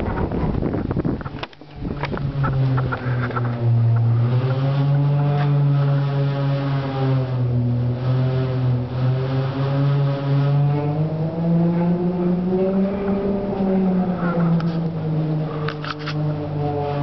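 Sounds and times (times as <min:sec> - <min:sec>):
wind on microphone: 0:00.0 - 0:17.0
wind turbine generator humming: 0:00.0 - 0:17.0.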